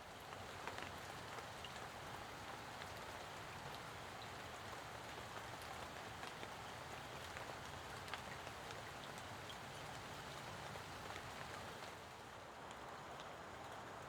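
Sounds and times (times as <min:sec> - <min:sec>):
rain falling on a pond: 0:00.0 - 0:14.0.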